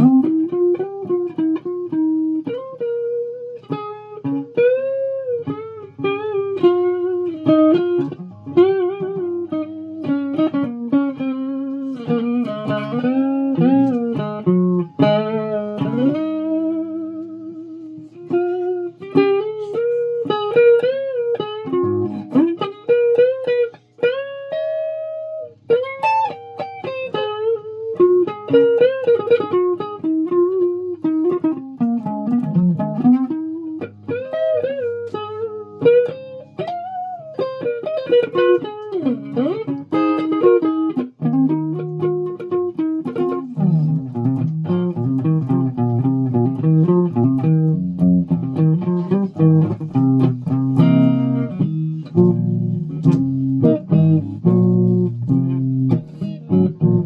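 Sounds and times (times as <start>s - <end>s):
electric guitar picking with bends: 0.0s - 57.0s.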